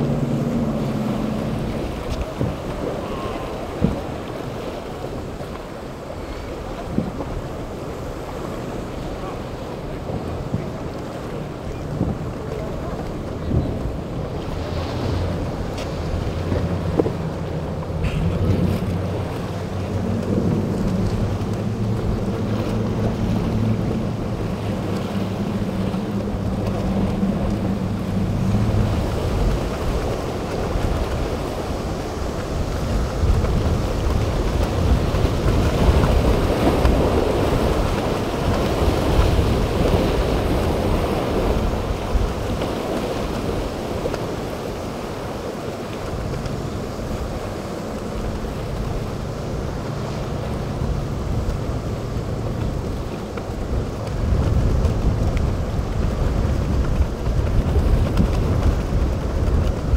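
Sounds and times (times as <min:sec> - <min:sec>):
outboard engines running: 0:00.0 - 0:59.9
waves breaking: 0:00.0 - 0:59.9
wind buffeting microphone: 0:00.0 - 0:59.9.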